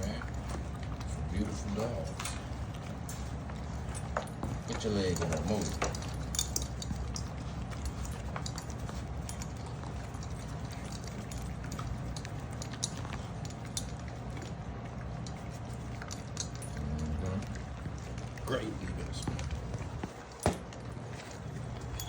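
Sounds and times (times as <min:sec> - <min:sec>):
puppies moving clicks and taps: 0:00.0 - 0:22.0
steady low hum: 0:00.0 - 0:22.0.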